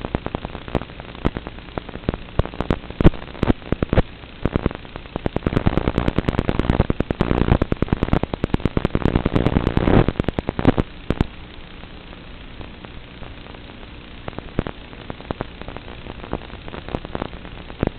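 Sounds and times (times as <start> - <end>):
radio crackling and pops: 0.0 - 17.9
static hiss: 0.0 - 17.9.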